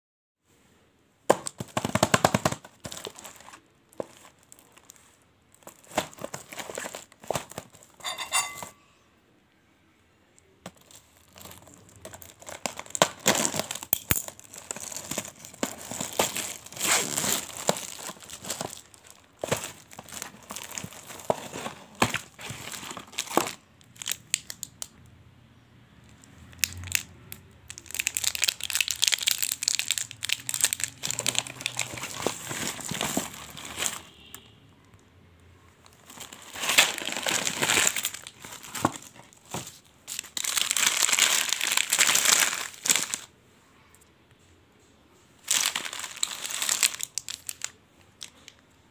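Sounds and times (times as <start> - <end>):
candy wrapper crinkling: 1.3 - 8.0, 10.6 - 24.9, 26.4 - 34.1, 35.8 - 43.3, 45.4 - 48.6
plastic wrap crinkling and tearing: 1.3 - 8.6, 10.7 - 24.9, 26.5 - 27.1, 27.7 - 34.3, 35.8 - 43.3, 45.4 - 48.6.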